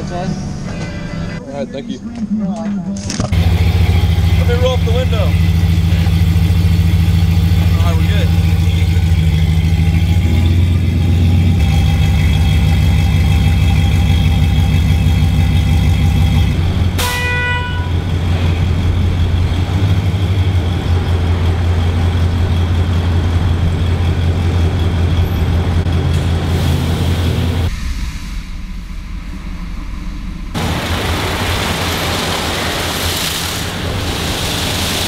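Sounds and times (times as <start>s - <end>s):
car engine running at low revs: 3.3s - 17.0s, 17.8s - 35.0s.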